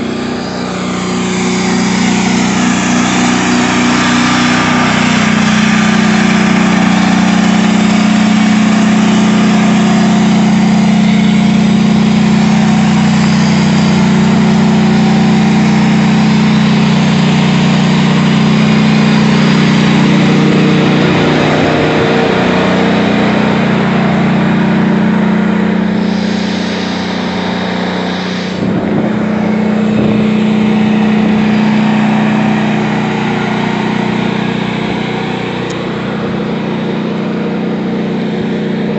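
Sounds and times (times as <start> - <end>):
tank engine droning: 0.0 - 38.9.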